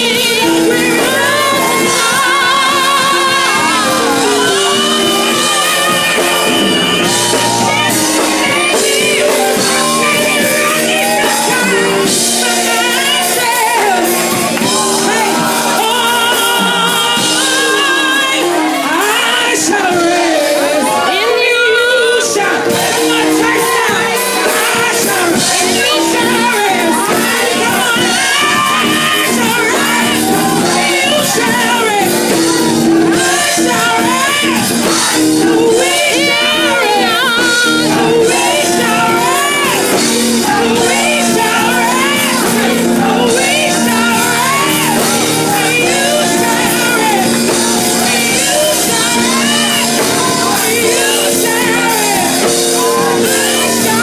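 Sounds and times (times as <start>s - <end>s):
congregation shouting: 0.0s - 54.0s
musical accompaniment: 0.0s - 54.0s
woman singing gospel: 0.0s - 54.0s.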